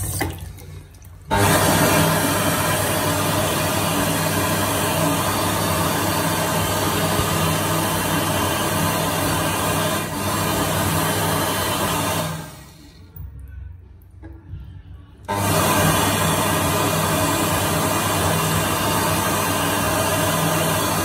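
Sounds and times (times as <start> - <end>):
hand dryer fan blowing air: 1.3 - 13.2, 15.2 - 21.0.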